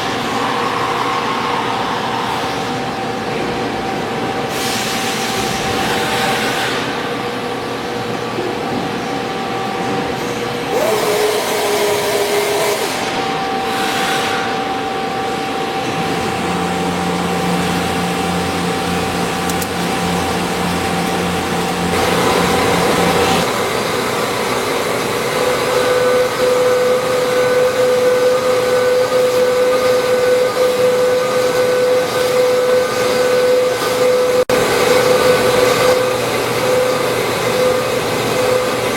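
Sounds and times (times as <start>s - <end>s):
machine spindle whine: 0.0s - 38.9s.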